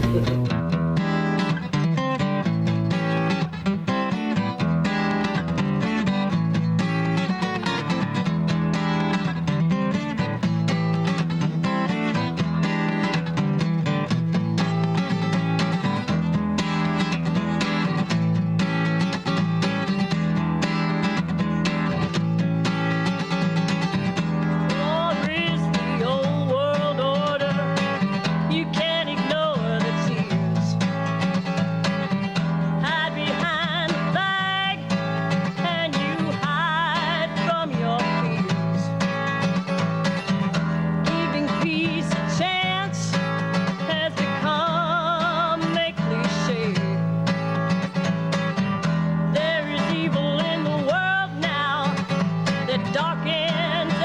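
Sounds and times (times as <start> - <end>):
country song with acoustic guitar: 0.0 - 54.0.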